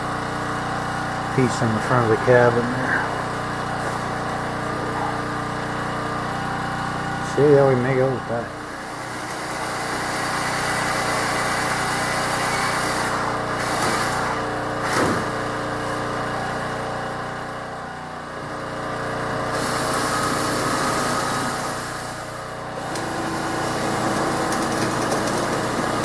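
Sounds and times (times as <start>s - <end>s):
power tool motor running: 0.0s - 26.0s.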